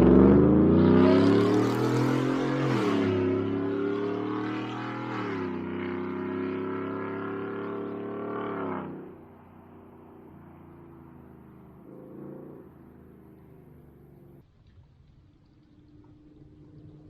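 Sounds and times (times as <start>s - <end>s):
truck exhaust under throttle: 0.0s - 14.5s.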